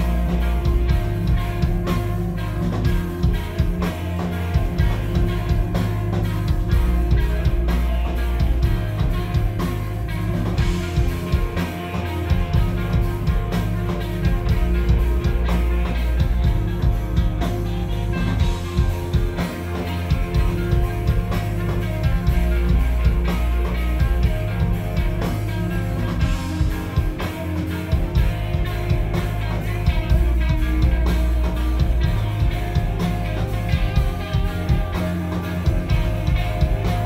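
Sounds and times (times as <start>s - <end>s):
drum kit: 0.0s - 37.0s
electric bass: 0.0s - 37.0s
electric guitars: 0.0s - 37.0s.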